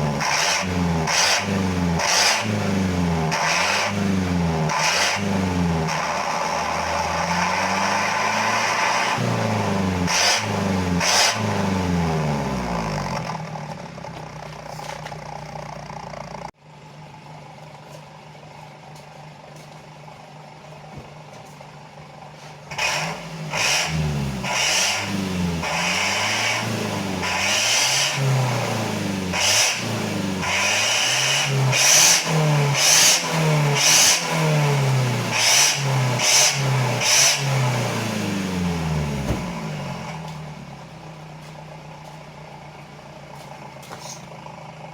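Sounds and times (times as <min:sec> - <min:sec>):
van engine revving: 0:00.0 - 0:16.6, 0:22.2 - 0:44.9.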